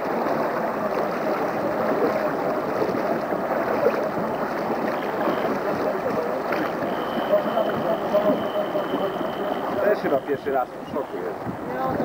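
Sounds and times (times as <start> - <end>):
swimmers splashing water: 0.0 - 12.0.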